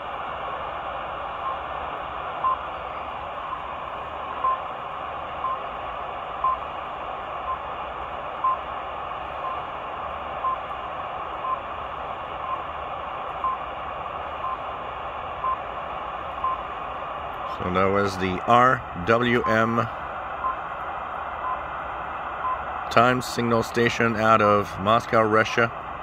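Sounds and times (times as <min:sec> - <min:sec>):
shortwave static hiss: 0:00.0 - 0:26.0.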